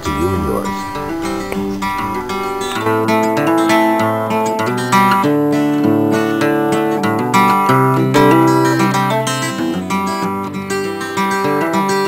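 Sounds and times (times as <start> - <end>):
guitar music plucked and strummed: 0.0 - 12.0.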